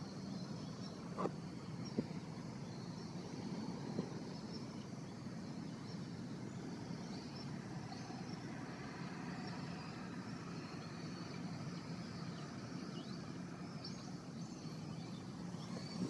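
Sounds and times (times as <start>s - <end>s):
distant engine drone: 0.0s - 16.0s.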